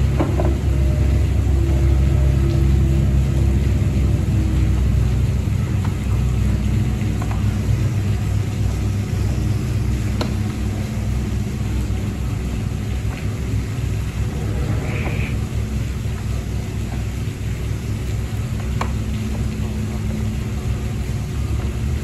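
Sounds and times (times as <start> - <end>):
low mechanical rumble: 0.0 - 22.0.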